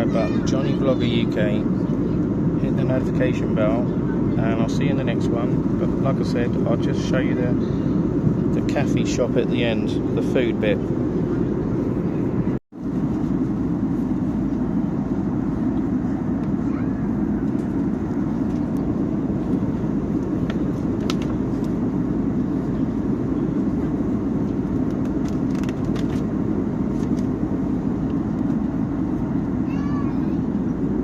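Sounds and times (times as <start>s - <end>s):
airliner cabin engine rush: 0.0s - 31.0s.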